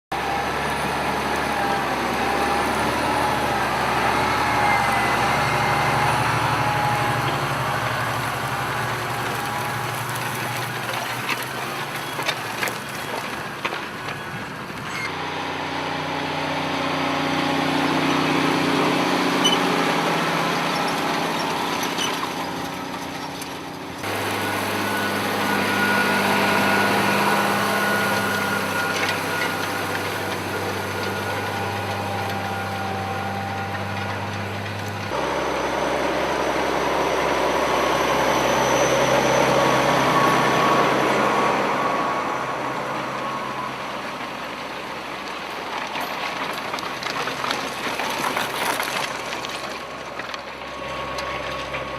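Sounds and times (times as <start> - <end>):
tractor engines running: 0.0 - 51.9.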